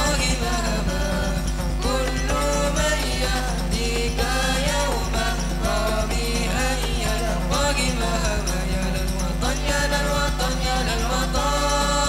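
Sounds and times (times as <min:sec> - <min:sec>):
frame drums beating: 0:00.0 - 0:12.0
men singing together: 0:00.0 - 0:12.0.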